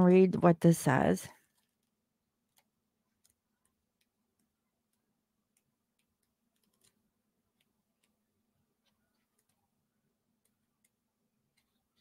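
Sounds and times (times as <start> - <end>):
faint irregular ticks: 1.3 - 12.0.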